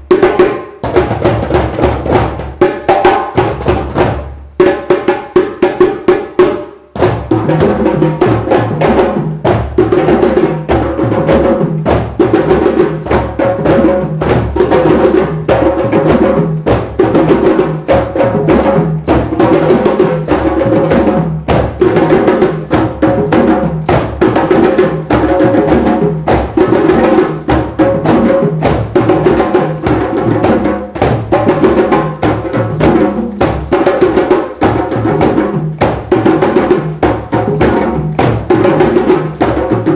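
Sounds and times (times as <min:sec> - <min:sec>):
drumming group playing: 0:00.0 - 0:39.9.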